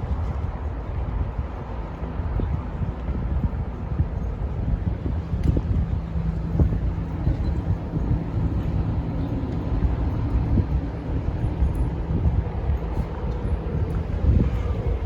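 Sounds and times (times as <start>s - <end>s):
traffic rumble: 0.0s - 15.0s
wind buffeting microphone: 0.0s - 15.0s.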